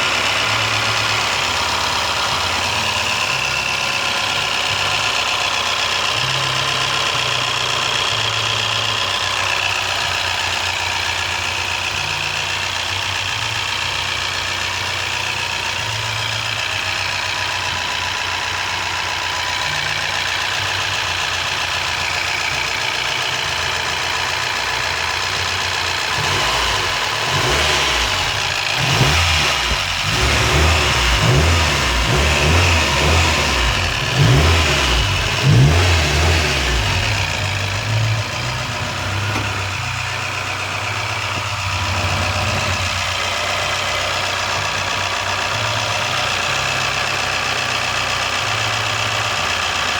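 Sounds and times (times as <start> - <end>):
car engine idling and revving: 0.0 - 49.9
engine ticking noise: 0.0 - 49.9.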